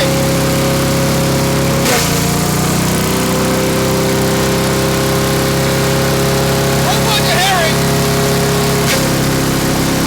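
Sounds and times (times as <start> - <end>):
wood chipper engine running: 0.0 - 10.0.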